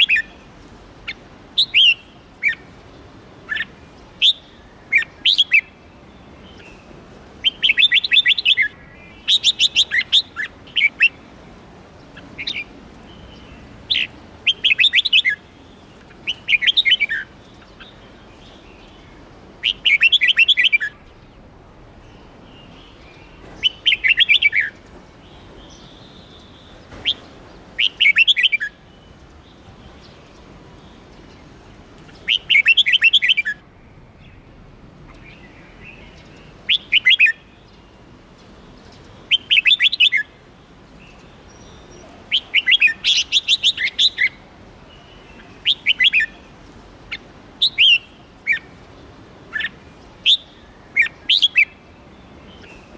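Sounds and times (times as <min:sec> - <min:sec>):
bird singing warbled phrases: 0:00.0 - 0:52.9.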